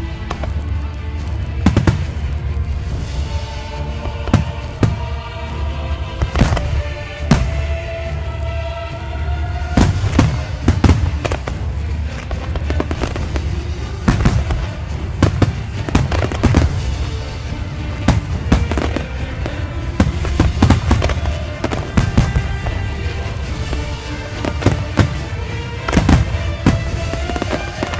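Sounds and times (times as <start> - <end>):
low rumble: 0.0 - 27.8
fireworks bangs and crackles: 0.0 - 27.9.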